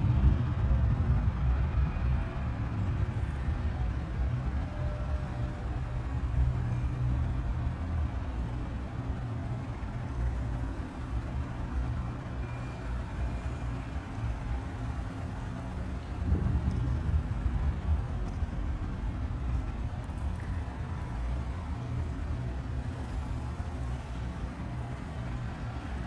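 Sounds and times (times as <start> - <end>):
faint high background noise: 0.0 - 26.0.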